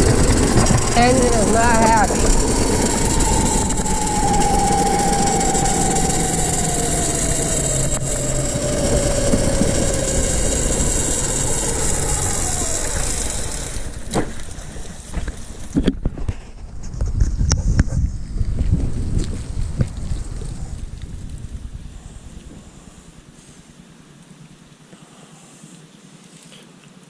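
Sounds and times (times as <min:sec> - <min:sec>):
small engine whining: 0:00.0 - 0:23.8
wind noise: 0:00.0 - 0:23.8.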